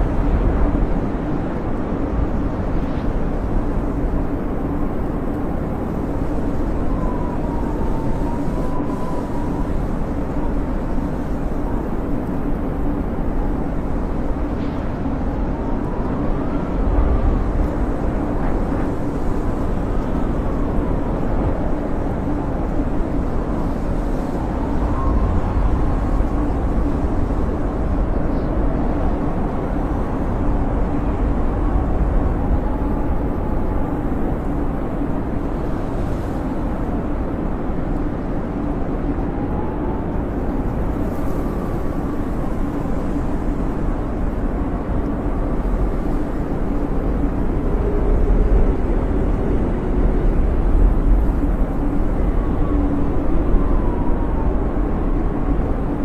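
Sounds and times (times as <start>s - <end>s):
blizzard wind howling: 0.0s - 56.0s.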